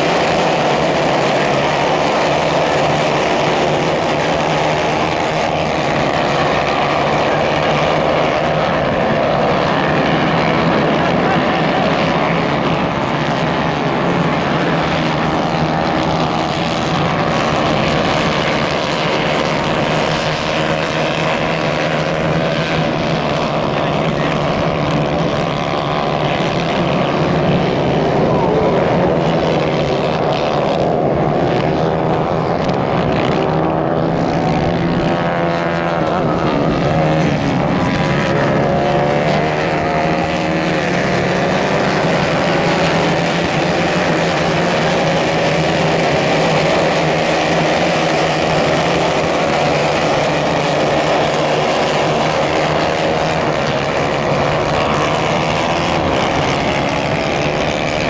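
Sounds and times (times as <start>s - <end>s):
racing kart engines buzzing: 0.0s - 58.0s.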